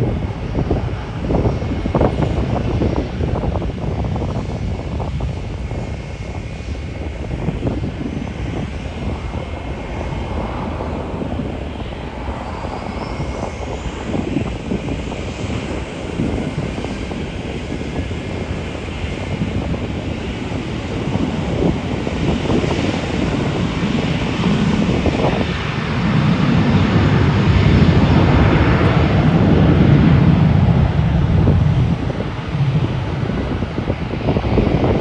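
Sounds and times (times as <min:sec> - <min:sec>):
jet engines rumbling: 0:00.0 - 0:35.0
wind buffeting microphone: 0:00.0 - 0:35.0.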